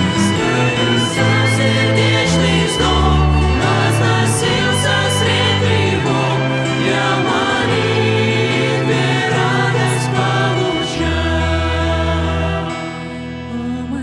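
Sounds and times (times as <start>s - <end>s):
acoustic guitar: 0.0s - 14.0s
mixed voices singing a hymn: 0.0s - 14.0s
upright bass: 0.0s - 14.0s.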